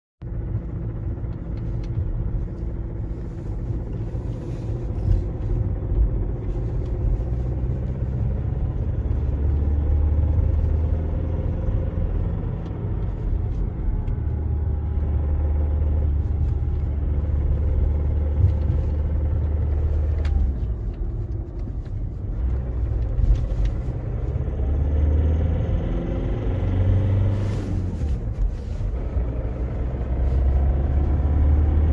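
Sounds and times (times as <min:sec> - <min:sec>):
diesel engine rumble: 0:00.2 - 0:31.9.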